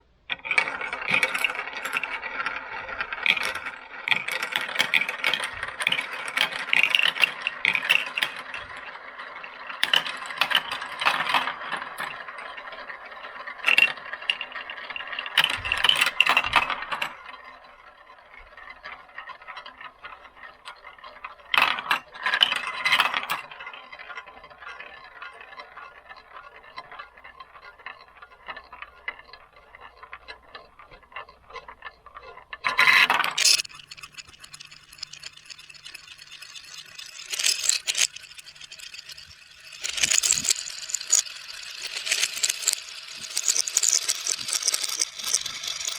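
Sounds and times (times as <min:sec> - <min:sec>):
marbles rolling and clattering: 0:00.3 - 0:25.0, 0:32.6 - 0:45.9.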